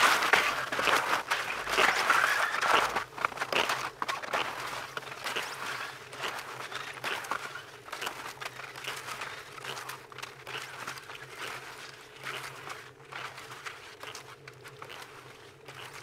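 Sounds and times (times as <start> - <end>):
skis crunching on snow: 0.0 - 16.0.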